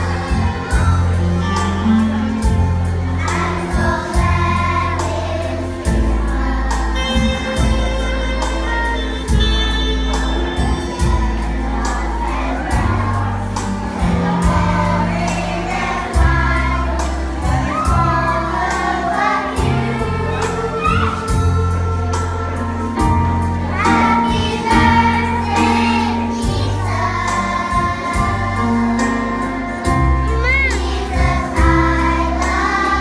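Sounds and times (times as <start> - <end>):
children singing: 0.0 - 33.0.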